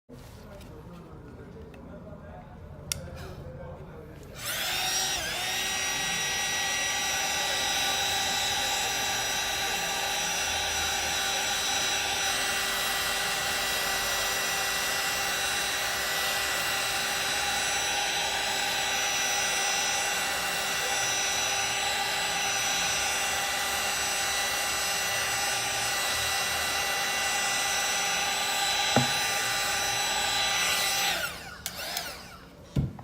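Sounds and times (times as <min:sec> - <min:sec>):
small electric motor whining: 0:04.4 - 0:32.6.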